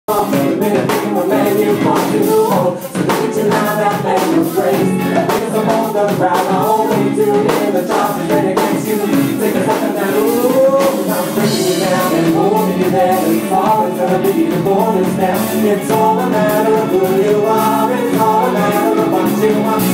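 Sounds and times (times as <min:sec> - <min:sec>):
live rock band playing: 0:00.1 - 0:19.9
man singing: 0:00.1 - 0:19.9
woman singing: 0:00.1 - 0:19.9.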